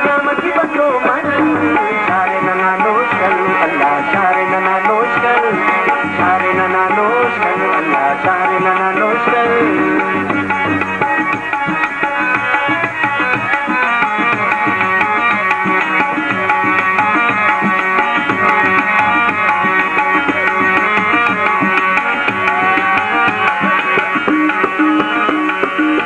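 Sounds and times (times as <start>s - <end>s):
tabla drumming: 0.0s - 26.0s
held melody notes: 1.2s - 26.0s.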